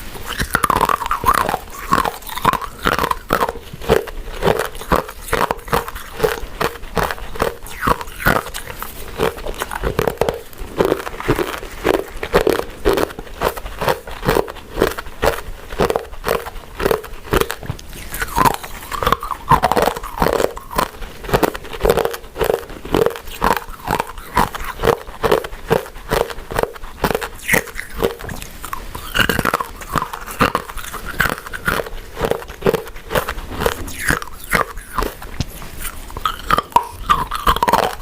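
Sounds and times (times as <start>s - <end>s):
person chewing: 0.0s - 38.0s.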